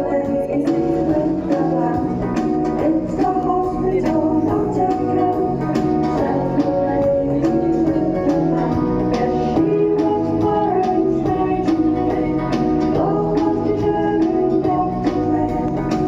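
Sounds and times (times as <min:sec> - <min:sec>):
song with person singing: 0:00.0 - 0:16.0.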